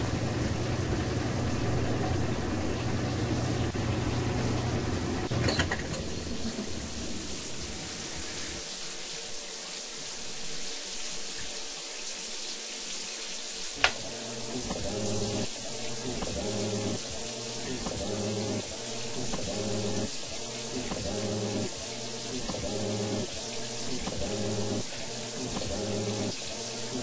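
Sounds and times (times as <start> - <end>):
low motor hum: 0.0 - 8.5, 13.8 - 27.0
washing machine filling with water: 0.0 - 27.0.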